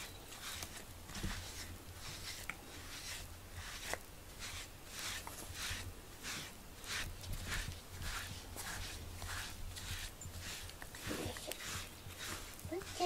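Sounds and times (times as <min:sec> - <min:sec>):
brush stroking cat fur: 0:00.0 - 0:13.0.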